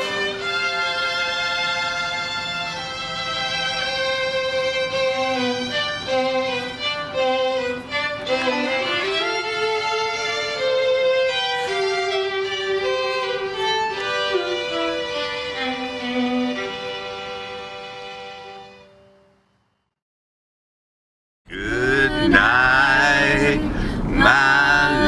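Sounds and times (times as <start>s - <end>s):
violin playing slow melody: 0.0s - 19.4s, 21.5s - 25.0s.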